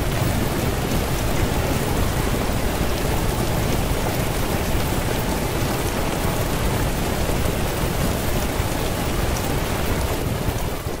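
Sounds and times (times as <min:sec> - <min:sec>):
dense rain-like hiss: 0:00.0 - 0:11.0.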